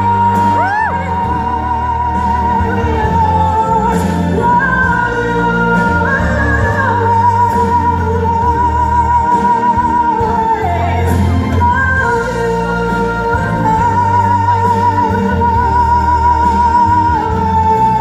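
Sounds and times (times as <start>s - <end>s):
band playing: 0.0s - 18.0s
woman singing: 0.0s - 18.0s.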